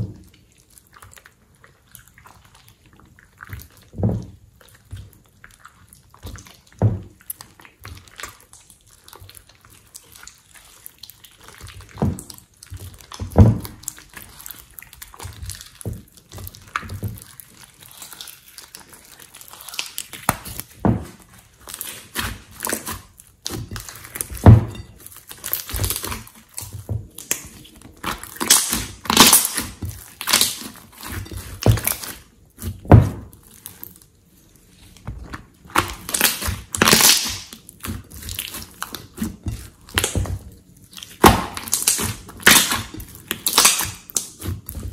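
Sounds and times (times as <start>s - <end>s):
slime squelching: 0.0s - 44.9s.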